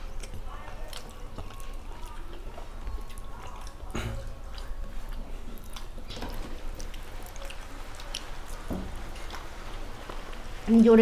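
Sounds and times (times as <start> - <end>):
chewing smacks and clicks: 0.0 - 10.3
low background noise: 0.0 - 11.0.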